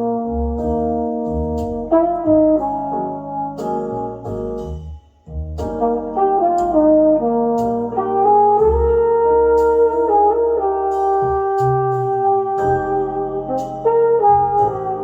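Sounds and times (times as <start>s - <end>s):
brass music over speakers: 0.0s - 4.7s, 5.6s - 15.0s.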